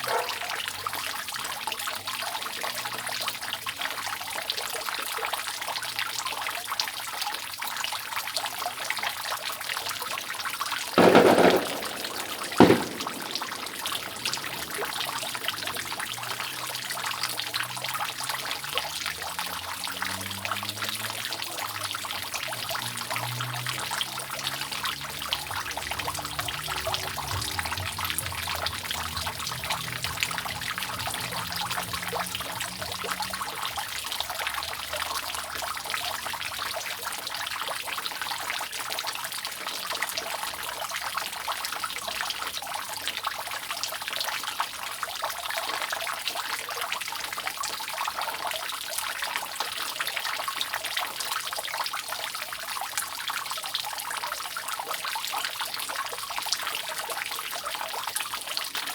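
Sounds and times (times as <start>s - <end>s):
water trickling and splashing: 0.0s - 11.0s, 11.7s - 58.9s
water dripping off roof: 0.0s - 58.9s.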